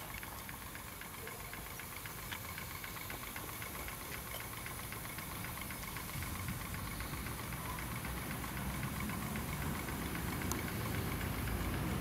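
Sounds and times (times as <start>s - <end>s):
steam engine exhaust beats: 0.0s - 12.0s.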